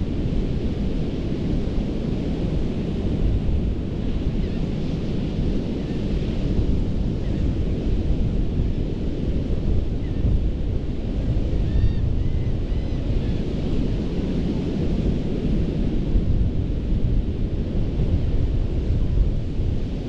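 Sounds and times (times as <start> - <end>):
ocean surf on sandy beach: 0.0 - 20.0
wind buffeting microphone: 0.0 - 20.0.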